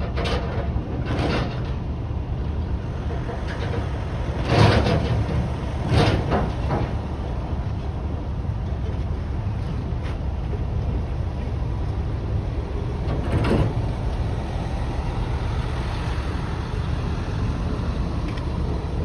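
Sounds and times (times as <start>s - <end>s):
diesel trucks idling: 0.0s - 19.0s.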